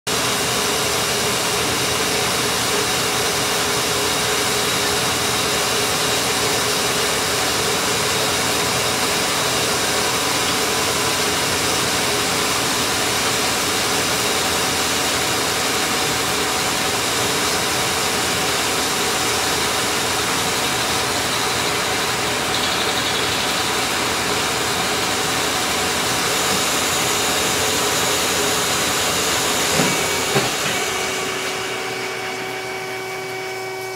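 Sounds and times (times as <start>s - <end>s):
machinery hum and hiss: 0.1s - 33.9s.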